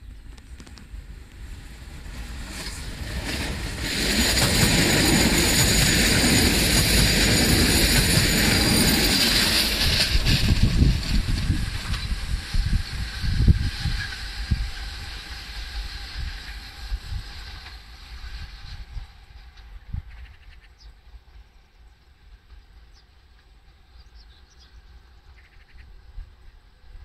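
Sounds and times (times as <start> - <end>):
rushing train wheels and air: 0.0 - 27.0.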